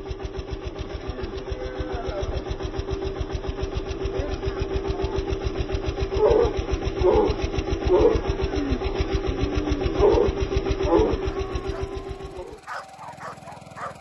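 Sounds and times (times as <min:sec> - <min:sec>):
motor running with humming pulse: 0:00.0 - 0:14.0.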